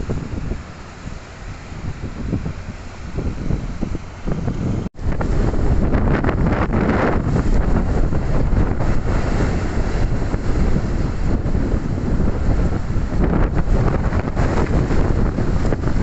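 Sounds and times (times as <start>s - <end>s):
gusting wind buffeting microphone: 0.0s - 16.0s.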